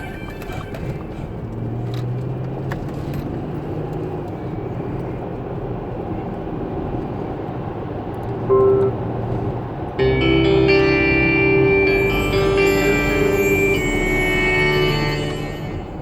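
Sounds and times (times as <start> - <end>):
car rumble: 0.0 - 16.0.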